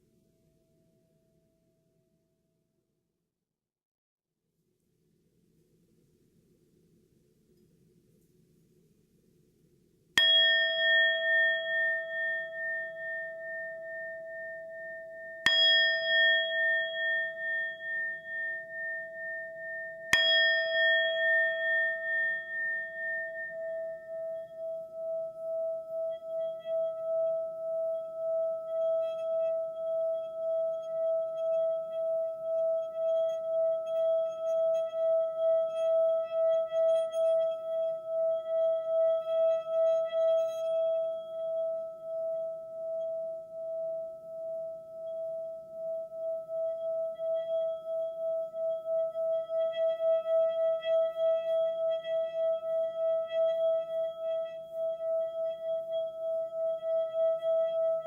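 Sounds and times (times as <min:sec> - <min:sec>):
singing bowl ringing: 0:10.2 - 0:58.0.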